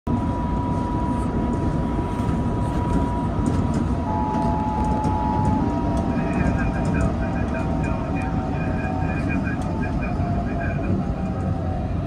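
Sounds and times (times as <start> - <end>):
lower whine: 0.1 - 12.0
thin steady whine: 0.1 - 12.0
train wheels rumbling: 0.4 - 12.0.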